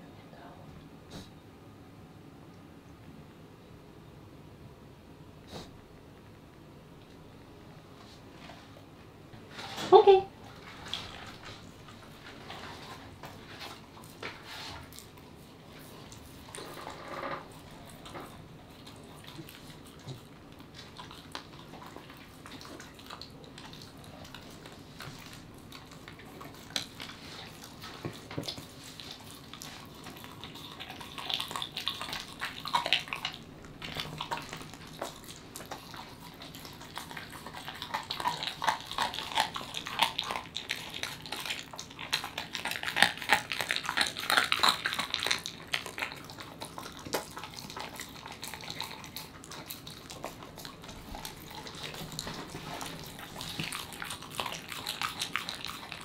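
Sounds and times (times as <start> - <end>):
dog licking and chewing: 10.1 - 56.0.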